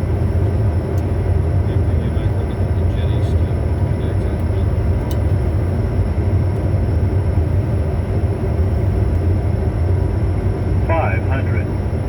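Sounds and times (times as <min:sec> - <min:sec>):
faint high steady whines: 0:00.0 - 0:12.0
jet airflow and engine rumble: 0:00.0 - 0:12.0.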